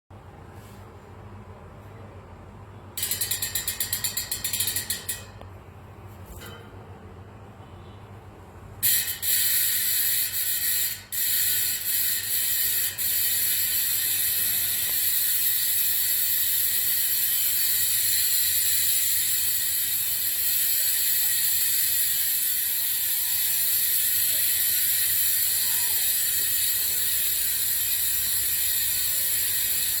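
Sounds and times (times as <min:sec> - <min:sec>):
bicycle hub freewheeling buzz: 0:02.9 - 0:05.8, 0:08.7 - 0:30.0.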